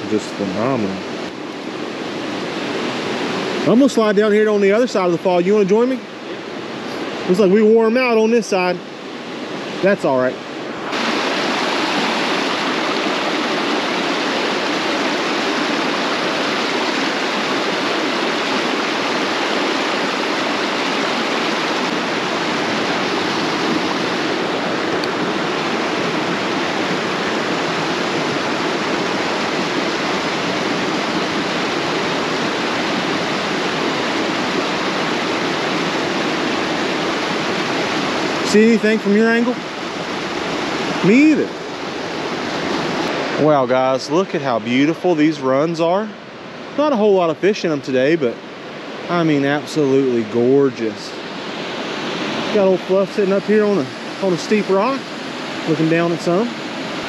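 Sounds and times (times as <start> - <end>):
creek rushing over rocks: 0.0 - 57.0.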